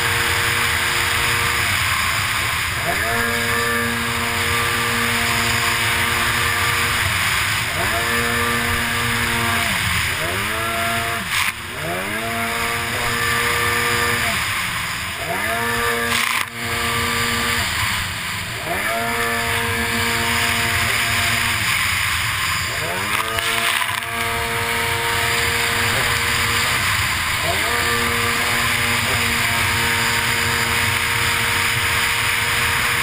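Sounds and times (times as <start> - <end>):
jetski engine at high revs: 0.0 - 33.0.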